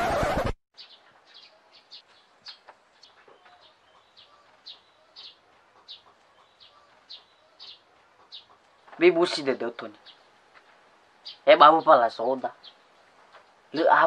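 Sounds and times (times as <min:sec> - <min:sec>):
bird chirping faintly: 0:00.8 - 0:14.0.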